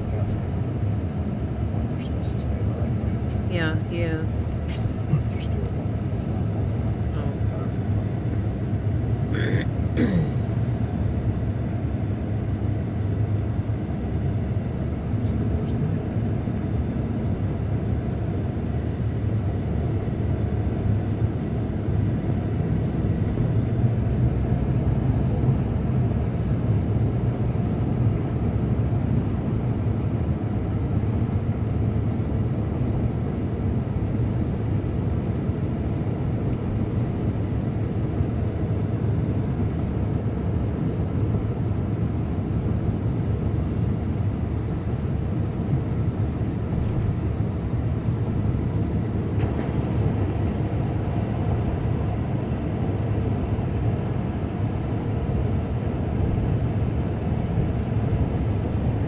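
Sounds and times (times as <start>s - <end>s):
car rumbling on snowy road: 0.0s - 59.0s.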